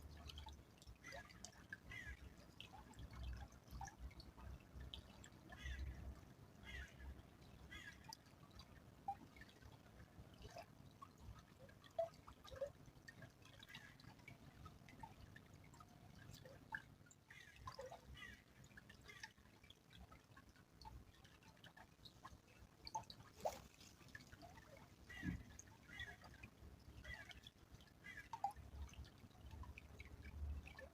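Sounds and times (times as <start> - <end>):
small stream trickling: 0.0 - 30.9
water drips: 0.0 - 30.9.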